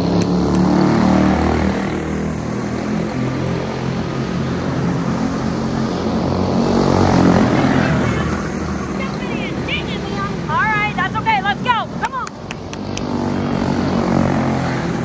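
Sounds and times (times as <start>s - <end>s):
race cars passing: 0.0s - 15.0s.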